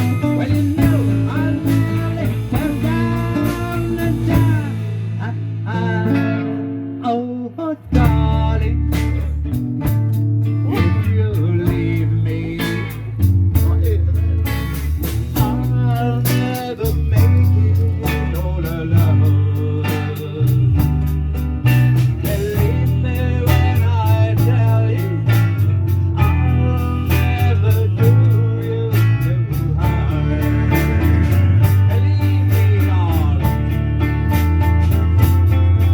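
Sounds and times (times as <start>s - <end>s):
plucked blues guitar: 0.0s - 35.9s
steady bass line: 0.0s - 35.9s.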